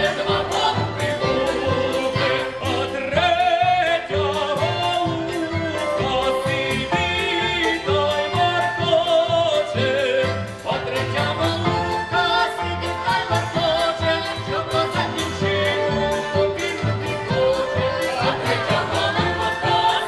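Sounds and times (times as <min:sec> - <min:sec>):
folk ensemble singing: 0:00.0 - 0:20.0
instrumental accompaniment: 0:00.0 - 0:20.0.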